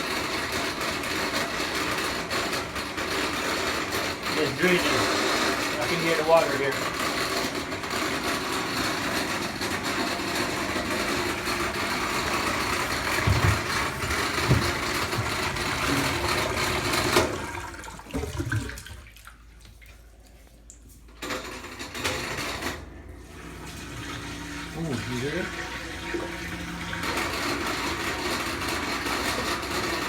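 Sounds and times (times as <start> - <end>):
drain pump rough noise: 0.0 - 19.4, 21.2 - 30.0.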